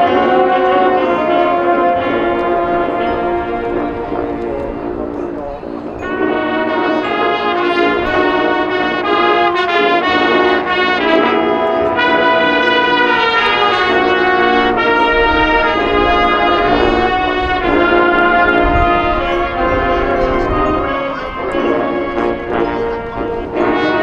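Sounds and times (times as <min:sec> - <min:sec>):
brass held chords: 0:00.0 - 0:24.0
marching band playing: 0:00.0 - 0:24.0.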